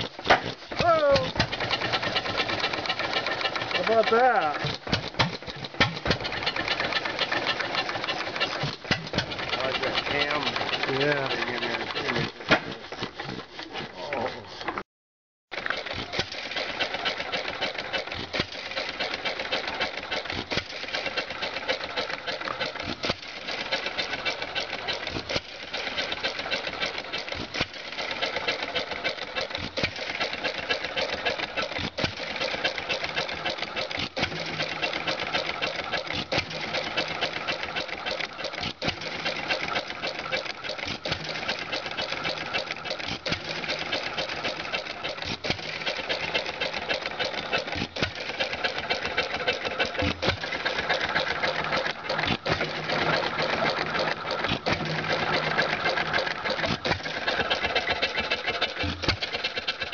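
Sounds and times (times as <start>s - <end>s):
hit-and-miss engine clattering: 0.0s - 14.3s, 15.5s - 59.9s.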